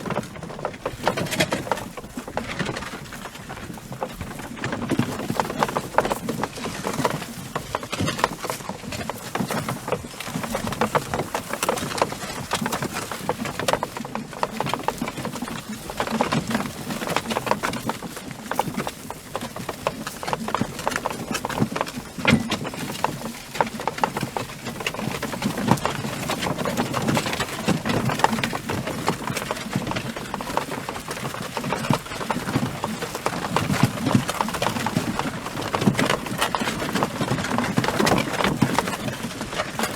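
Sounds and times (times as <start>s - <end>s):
horse hooves clip-clopping: 0.0s - 39.9s.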